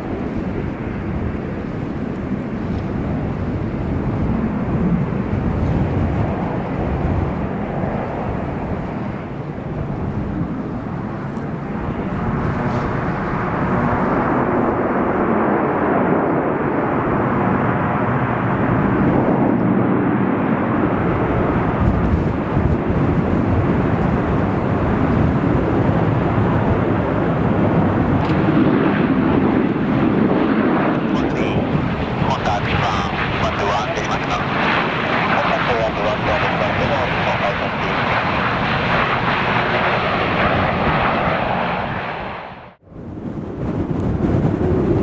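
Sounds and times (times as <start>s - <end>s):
airliner engines running: 0.0s - 45.0s.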